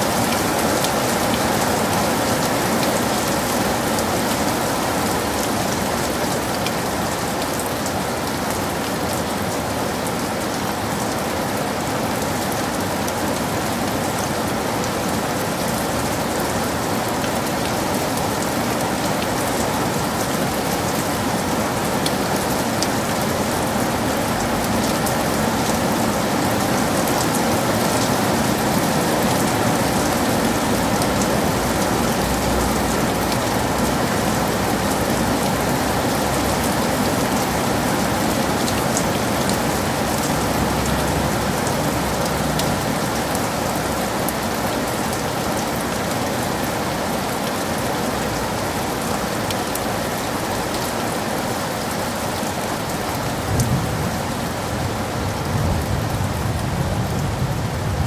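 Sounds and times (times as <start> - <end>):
heavy rain: 0.0 - 58.0
raindrops striking close by: 0.0 - 58.0.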